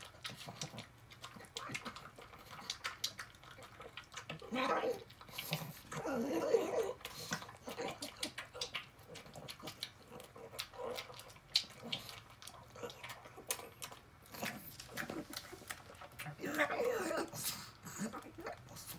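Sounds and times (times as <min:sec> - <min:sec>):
dog eating wet smacking: 0:00.0 - 0:18.9.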